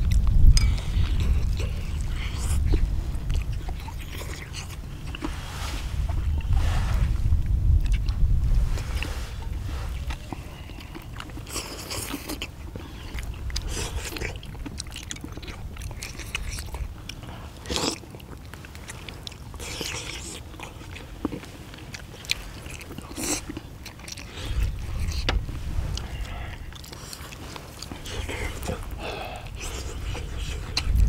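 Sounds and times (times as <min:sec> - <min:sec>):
people biting and chewing: 0:00.0 - 0:31.0.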